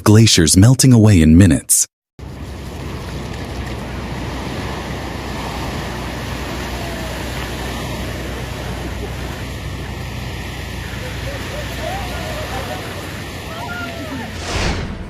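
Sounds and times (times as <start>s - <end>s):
water rushing: 2.2s - 15.0s.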